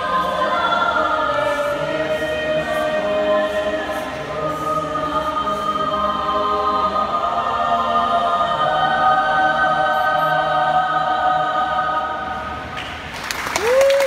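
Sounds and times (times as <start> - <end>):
choir singing a cappella: 0.0 - 12.8.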